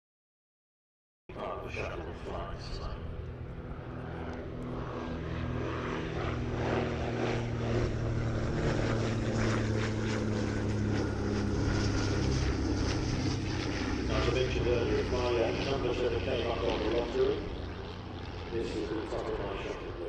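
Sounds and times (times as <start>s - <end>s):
propeller plane engines droning: 1.3s - 20.0s.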